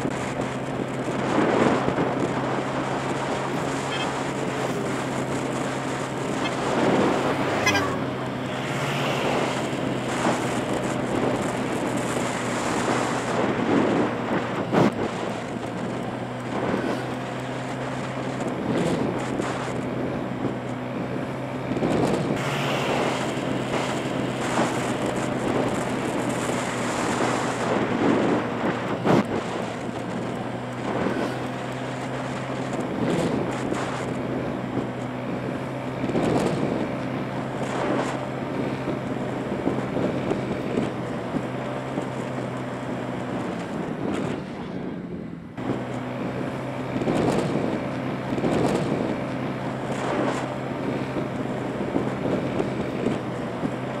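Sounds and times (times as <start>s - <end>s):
motorbike engine humming: 0.0s - 54.0s
road and rushing air noise: 0.0s - 54.0s.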